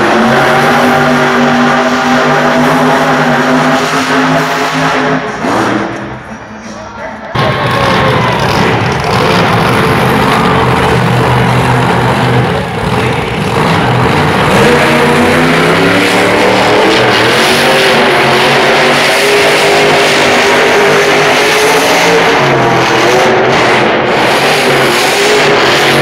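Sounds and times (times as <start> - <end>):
truck engine revving hard: 0.0 - 6.3, 7.4 - 26.0.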